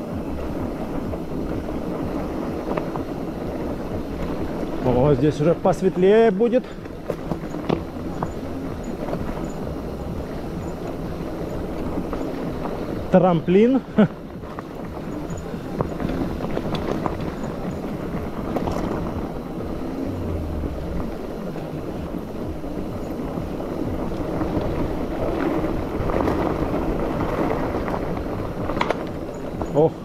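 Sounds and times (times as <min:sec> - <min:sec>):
bike tyres on gravel: 0:00.0 - 0:30.0
wind buffeting microphone: 0:00.0 - 0:30.0.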